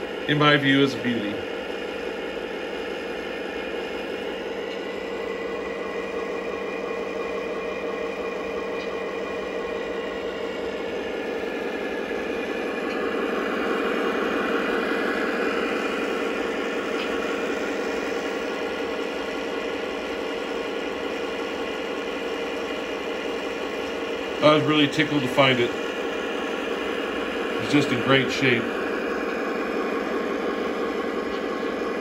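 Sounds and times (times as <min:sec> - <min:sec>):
diesel engine idle rumble: 0:00.0 - 0:32.0.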